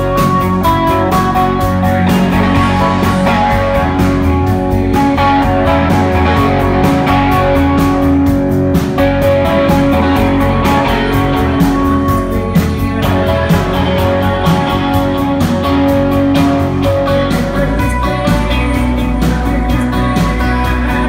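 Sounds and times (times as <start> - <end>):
guitar rock music: 0.0 - 21.0.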